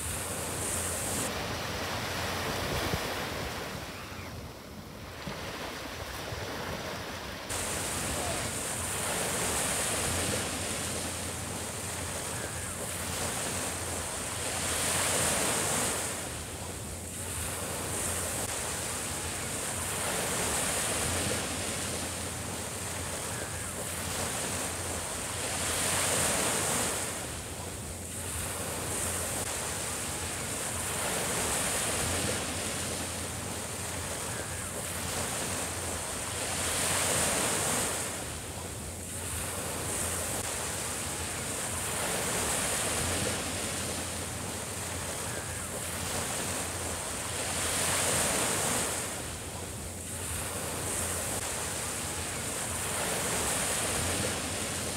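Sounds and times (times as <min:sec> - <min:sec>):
small waves breaking on beach: 0:00.0 - 0:54.9.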